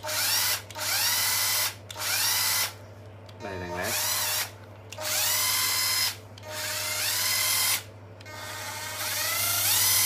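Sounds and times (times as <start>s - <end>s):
cordless drill whining: 0.0s - 2.8s, 3.9s - 10.0s.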